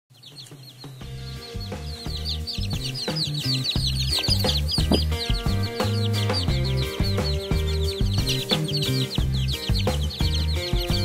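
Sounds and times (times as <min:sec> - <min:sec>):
chicks peeping: 0:00.1 - 0:11.0
background music with bass line: 0:00.6 - 0:11.0.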